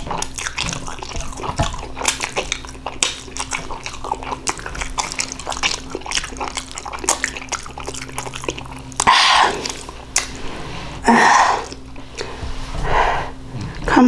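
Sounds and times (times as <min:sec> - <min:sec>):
slurping noodles: 0:00.0 - 0:11.9
person chewing noodles: 0:00.0 - 0:12.3.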